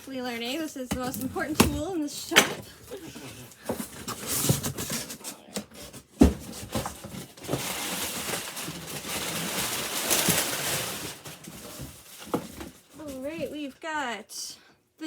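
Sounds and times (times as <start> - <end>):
packaging scraping and rustling: 0.0 - 13.6.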